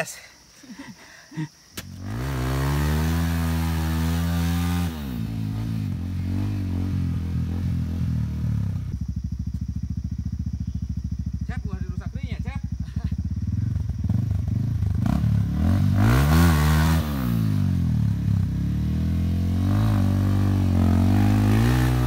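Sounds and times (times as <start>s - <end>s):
dirt bike engine revving and idling: 1.8s - 22.0s.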